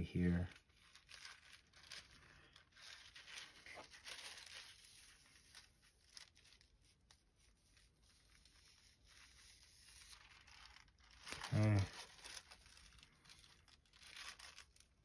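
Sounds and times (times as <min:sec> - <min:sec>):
thin fabric sheet crinkling: 0:00.0 - 0:15.0.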